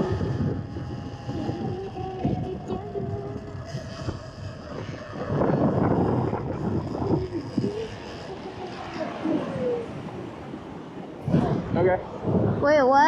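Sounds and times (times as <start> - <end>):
electric motor whining: 0.0 - 12.0
wind buffeting microphone: 0.0 - 13.0.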